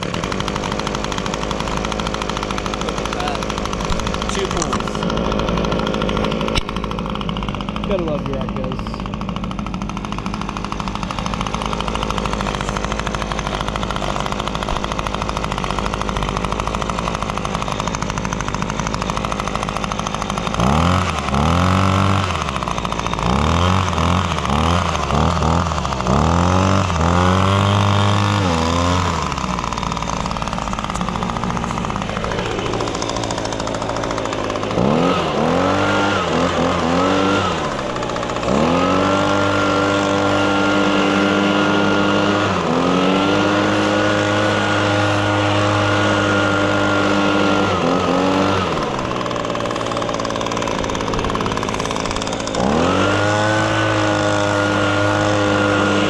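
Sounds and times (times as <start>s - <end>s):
leaf blower engine revving: 0.0s - 56.0s.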